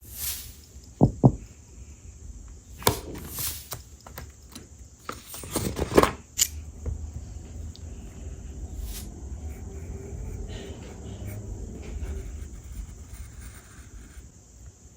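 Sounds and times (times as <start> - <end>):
low background hum: 0.0 - 14.9.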